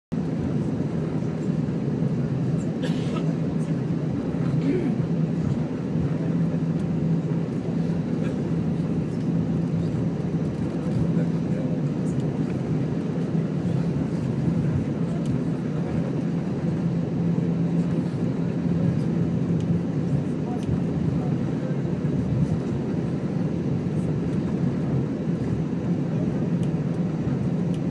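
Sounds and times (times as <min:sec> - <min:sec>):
airplane cabin rumble: 0:00.1 - 0:27.9
jet engines humming: 0:00.1 - 0:27.9.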